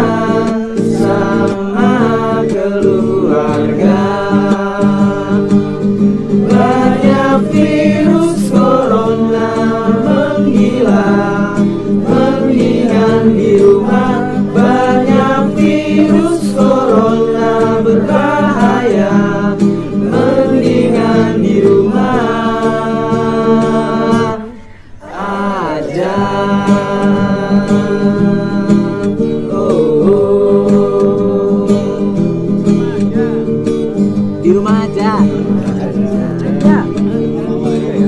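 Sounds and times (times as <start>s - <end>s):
choir singing: 0.0s - 34.6s
instrumental accompaniment: 0.0s - 38.0s.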